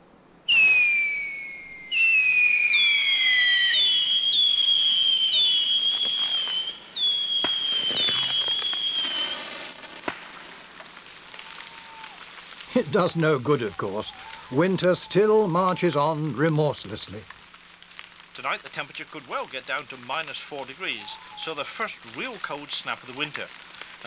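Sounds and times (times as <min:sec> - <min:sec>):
firework cracks: 0:00.5 - 0:24.0
whistling fireworks: 0:00.5 - 0:24.0.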